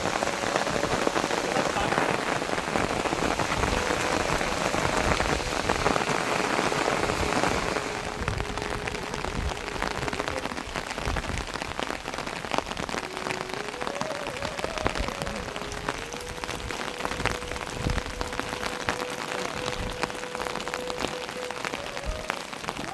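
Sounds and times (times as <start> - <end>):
rain pattering: 0.0 - 22.9.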